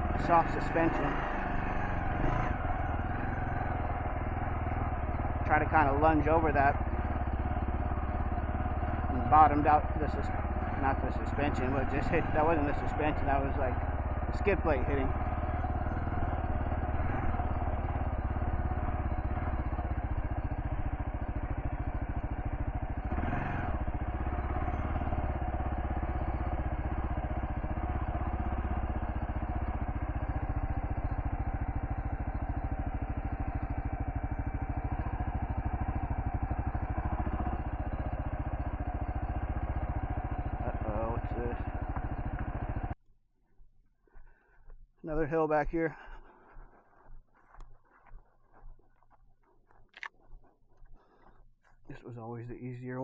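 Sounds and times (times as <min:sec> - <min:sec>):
motorcycle engine running: 0:00.0 - 0:43.0, 0:44.2 - 0:53.0.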